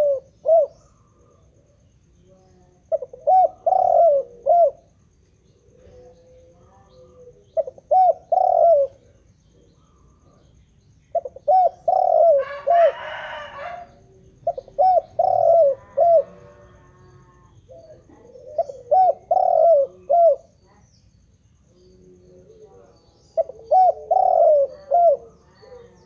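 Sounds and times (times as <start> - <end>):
dove cooing: 0.0 - 1.8, 2.6 - 10.4, 11.1 - 20.8, 21.9 - 26.0.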